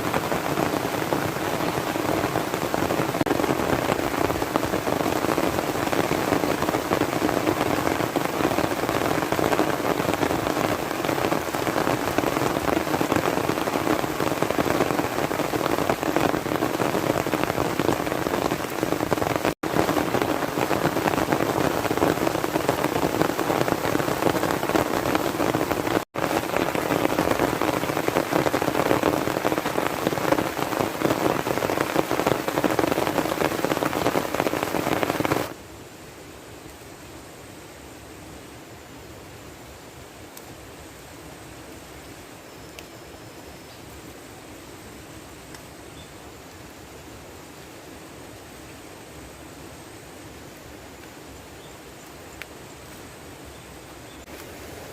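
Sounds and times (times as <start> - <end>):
heavy rain falling: 0.0 - 36.4, 43.8 - 54.9.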